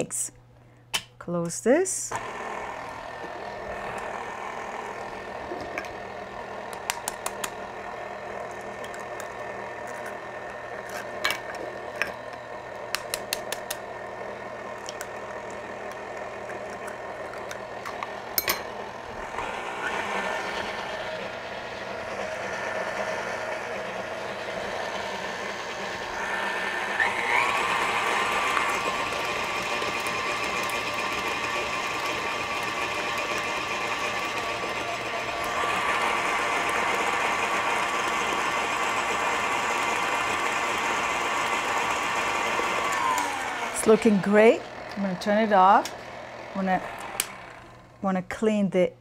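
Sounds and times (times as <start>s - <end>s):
stand mixer motor whine: 2.1s - 48.0s.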